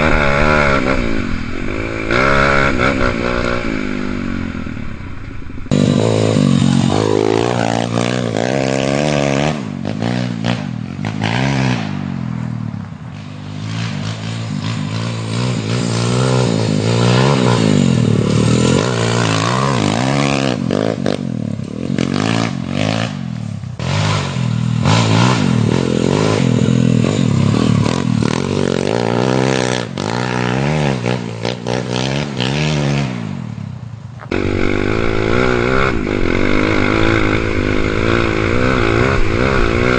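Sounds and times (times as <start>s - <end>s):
dirt bike engine revving: 0.0s - 33.6s, 34.2s - 39.9s.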